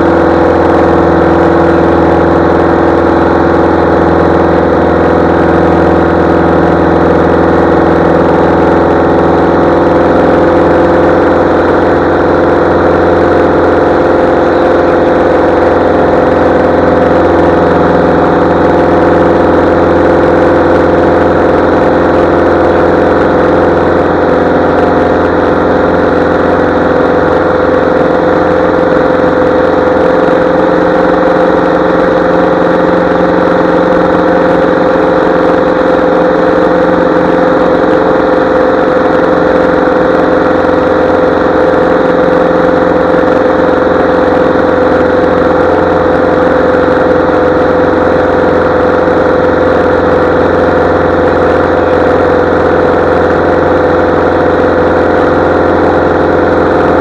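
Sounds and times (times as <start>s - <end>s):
airplane piston engine and propeller: 0.0s - 57.0s.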